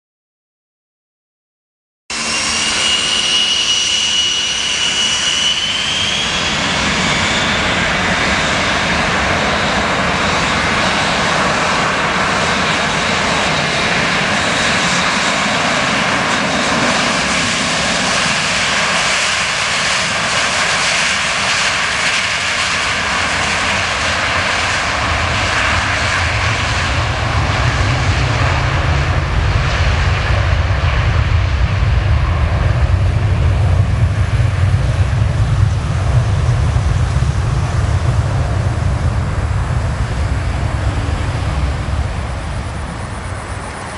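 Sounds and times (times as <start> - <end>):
jet engine roar: 2.1 - 43.9
jet engine whine: 2.1 - 43.9.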